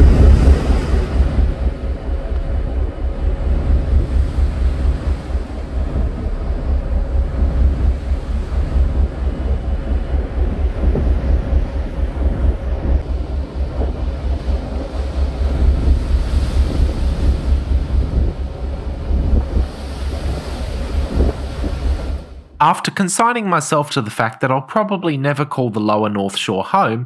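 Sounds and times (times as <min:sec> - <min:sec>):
wind buffeting microphone: 0:00.0 - 0:22.4
water rushing along hull: 0:00.0 - 0:22.5.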